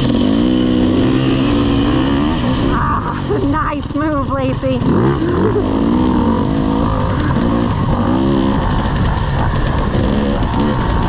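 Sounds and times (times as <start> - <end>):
off-road race engine revving: 0.0 - 11.0.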